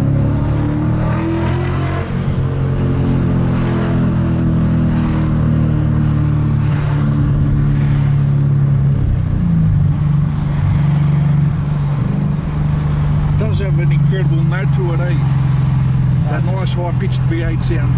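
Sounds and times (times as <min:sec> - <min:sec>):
vee eight car engine running: 0:00.0 - 0:17.9.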